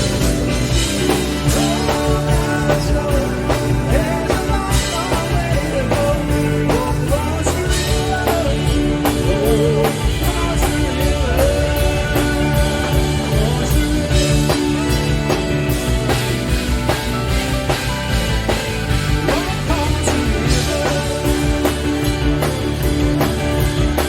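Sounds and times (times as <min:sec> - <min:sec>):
drums: 0:00.0 - 0:24.0
lead guitar melody with bends: 0:00.0 - 0:24.0
live rock band playing: 0:00.0 - 0:24.0.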